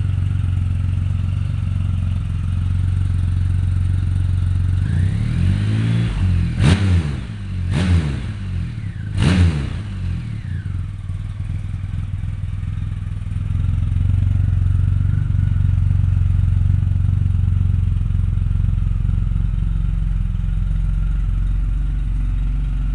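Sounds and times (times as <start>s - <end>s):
motorcycle engine revving and idling: 0.0s - 22.9s.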